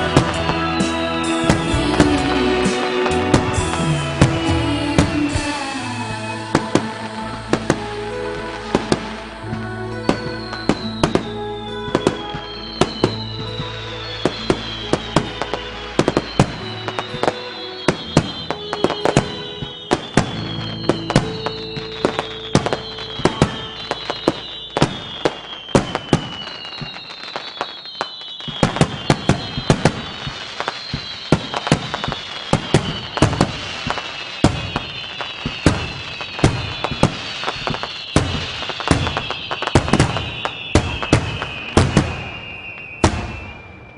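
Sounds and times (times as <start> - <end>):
fireworks bangs and crackles: 0.0 - 43.9
fireworks whistles falling: 0.0 - 43.9.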